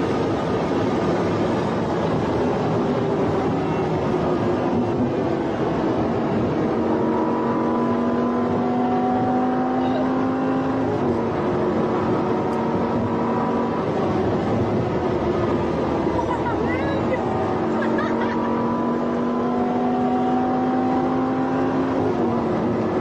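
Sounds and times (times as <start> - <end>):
car engine at high speed: 0.0 - 23.0
road and wind noise: 0.0 - 23.0.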